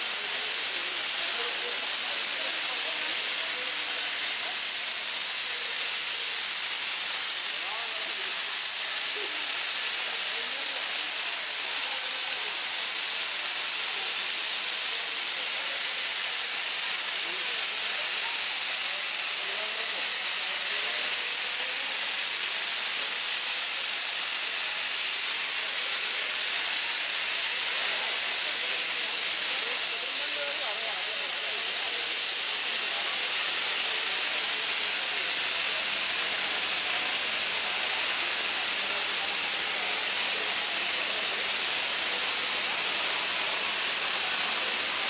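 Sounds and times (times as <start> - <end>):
steam locomotive hissing: 0.0 - 45.0.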